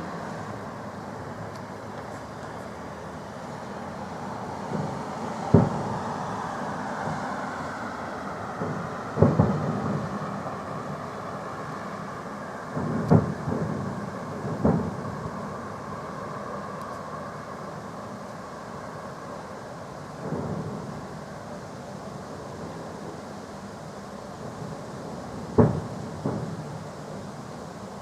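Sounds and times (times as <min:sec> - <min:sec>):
fireworks booming overhead: 0:00.0 - 0:28.0.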